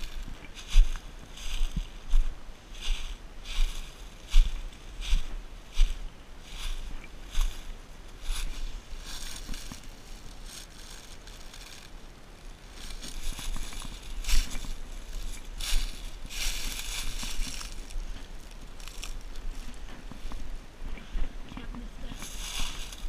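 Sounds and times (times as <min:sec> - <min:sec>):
footsteps crunching dry leaves: 0:00.0 - 0:21.4, 0:22.0 - 0:23.0.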